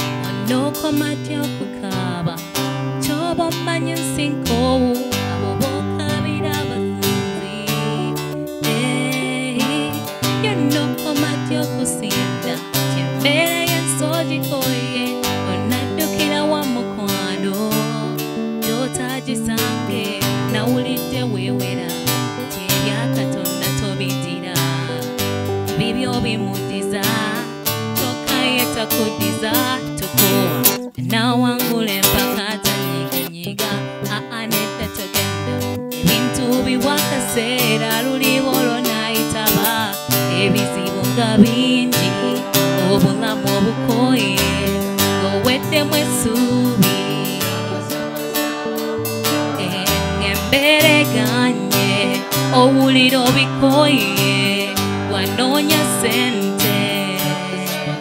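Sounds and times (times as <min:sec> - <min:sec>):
strummed guitar: 0:00.0 - 0:58.0
woman singing into microphone: 0:00.0 - 0:58.0.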